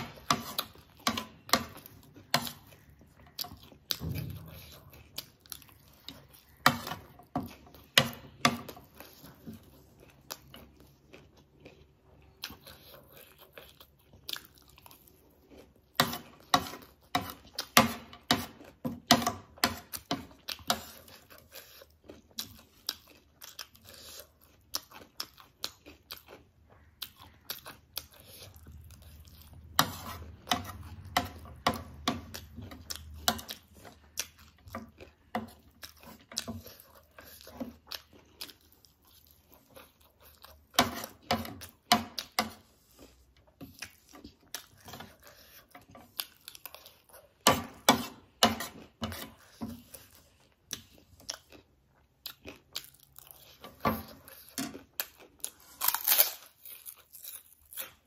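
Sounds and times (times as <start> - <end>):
crunching and chewing snacks: 0.0 - 58.0.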